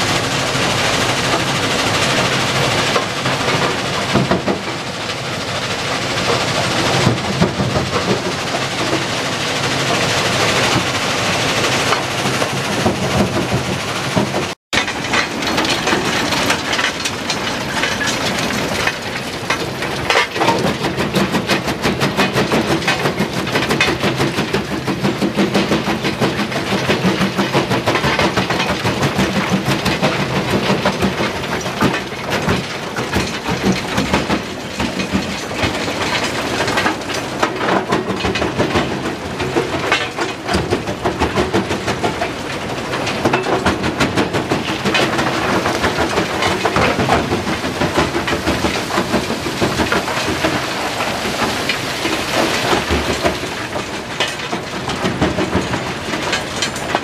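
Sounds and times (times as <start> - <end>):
rock crushing machinery clatter: 0.0 - 57.0
vibrating feeder rattling with rock: 10.2 - 57.0.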